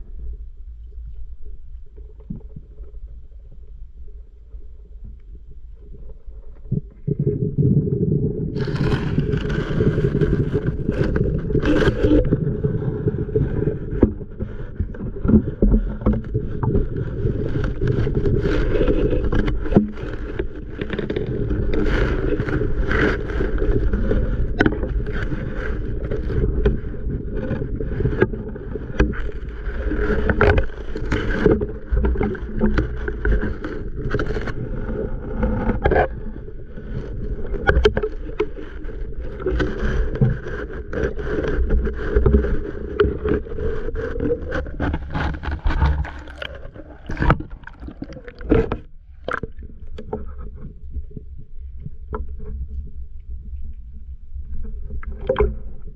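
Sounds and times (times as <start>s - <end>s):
knocks and clicks underwater: 0.0s - 55.9s
muffled underwater rumble: 0.0s - 55.9s.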